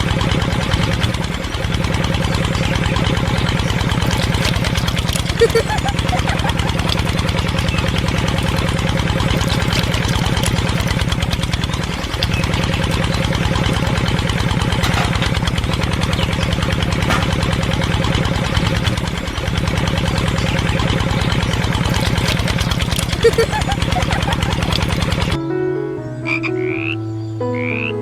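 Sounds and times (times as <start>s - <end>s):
engine chugging: 0.0s - 25.4s.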